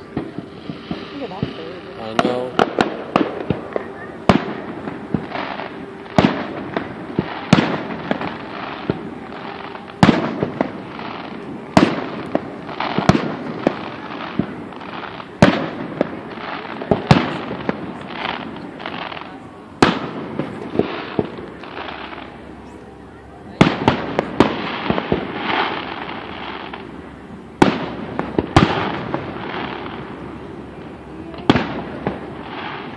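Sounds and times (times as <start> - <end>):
firework shells booming: 0.0 - 22.3, 27.6 - 32.9
fireworks crackling: 0.0 - 32.9.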